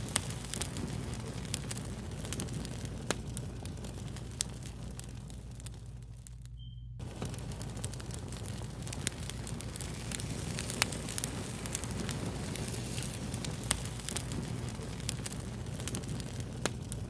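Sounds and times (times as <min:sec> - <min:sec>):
fire rushing noise: 0:00.0 - 0:06.3, 0:07.0 - 0:17.0
fire crackling and popping: 0:00.0 - 0:17.0.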